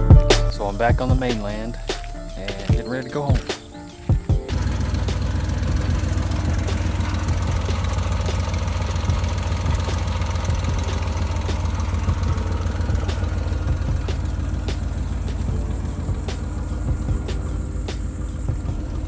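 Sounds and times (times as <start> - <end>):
car engine knocking: 0.0 - 19.0.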